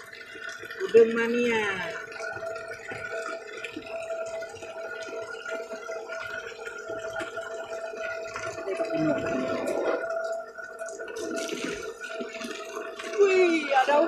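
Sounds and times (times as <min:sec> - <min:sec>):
hand stirring water: 0:00.0 - 0:14.0
water pouring into tub: 0:00.0 - 0:14.0.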